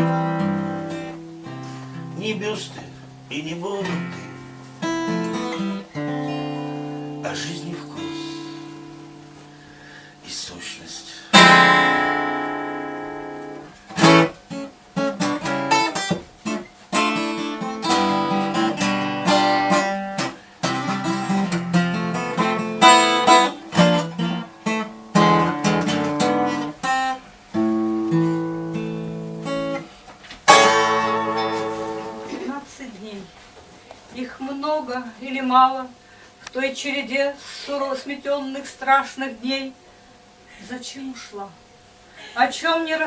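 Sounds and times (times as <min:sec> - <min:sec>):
acoustic guitar: 0:00.0 - 0:39.6.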